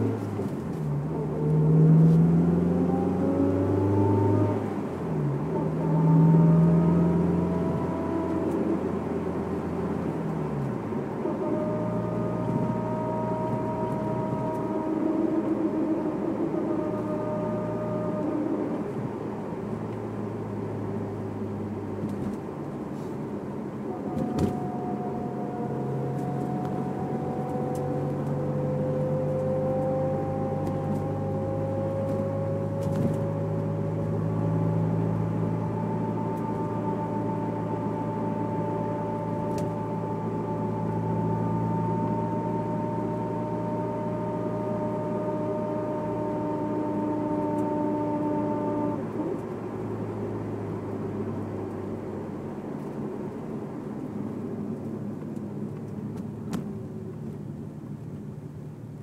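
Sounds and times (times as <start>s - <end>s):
car engine driving: 0.0s - 59.0s
thin drivetrain whine: 0.0s - 59.0s.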